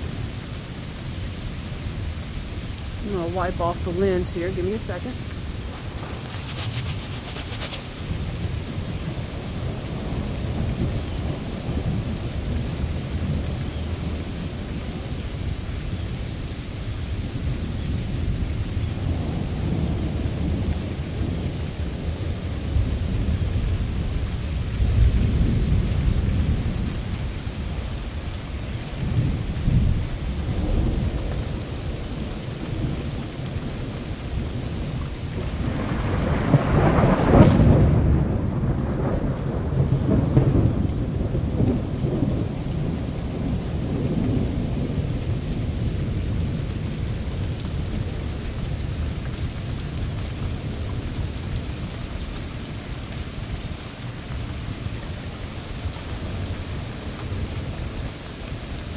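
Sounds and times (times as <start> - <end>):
thunder rumbling: 0.0 - 16.2, 16.8 - 52.8
steady rain: 0.0 - 58.9.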